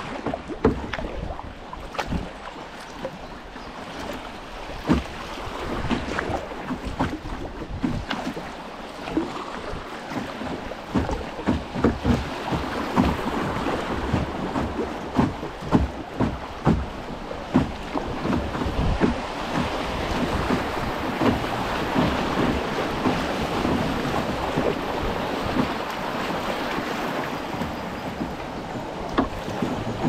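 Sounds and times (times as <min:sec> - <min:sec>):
paddle splashes and hull knocks: 0:00.0 - 0:30.0
water rushing over riffles: 0:00.0 - 0:30.0.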